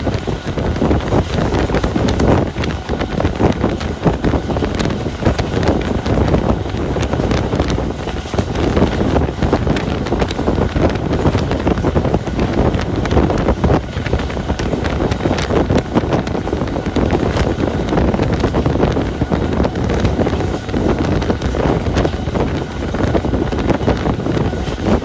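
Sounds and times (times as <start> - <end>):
moving train rumble and rattle: 0.0 - 25.0
wind buffeting microphone: 0.0 - 25.0.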